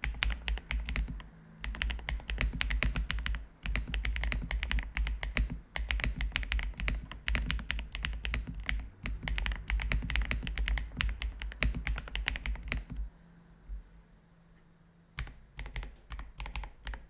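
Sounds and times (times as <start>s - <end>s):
mechanical keyboard typing clicks: 0.0s - 13.1s, 15.2s - 17.0s.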